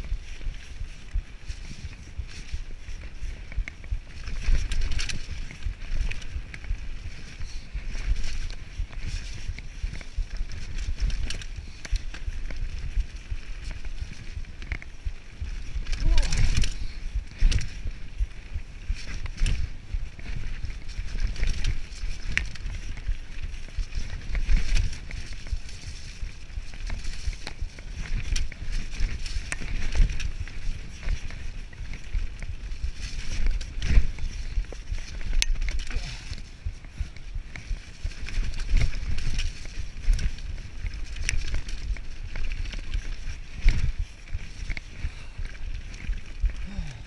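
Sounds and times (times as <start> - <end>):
bike knocking on roots and stones: 0.0 - 47.0
bike rattling: 0.0 - 47.0
bike tyres rumbling on dirt: 0.0 - 47.0.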